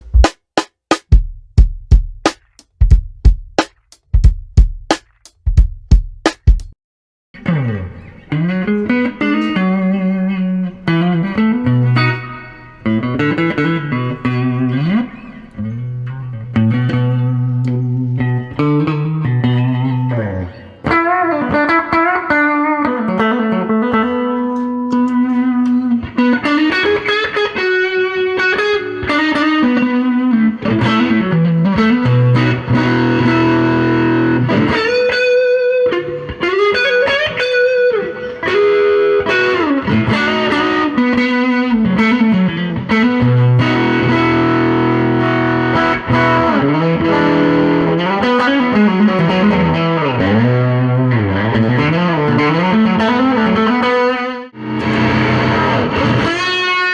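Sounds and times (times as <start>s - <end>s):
fuzz electric guitar lead: 7.4s - 56.9s.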